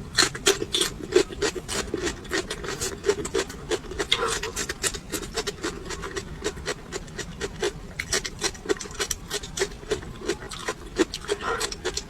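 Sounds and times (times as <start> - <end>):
crunchy chewing: 0.0 - 12.0
wet mouth sounds: 0.2 - 12.0.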